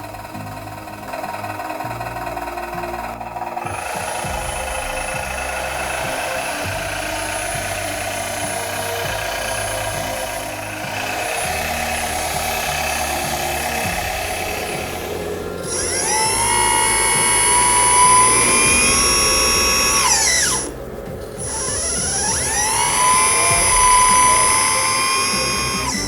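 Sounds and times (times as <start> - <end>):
electric motor whining: 0.0 - 26.0
steady mechanical hum: 0.0 - 26.0.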